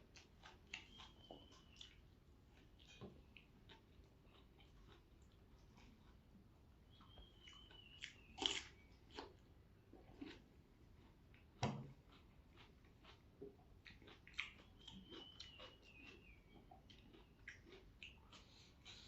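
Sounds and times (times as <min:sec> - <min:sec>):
crunching bites and chewing: 0:00.0 - 0:06.2, 0:07.0 - 0:09.4, 0:10.0 - 0:19.0
wet chewing clicks: 0:00.0 - 0:19.0.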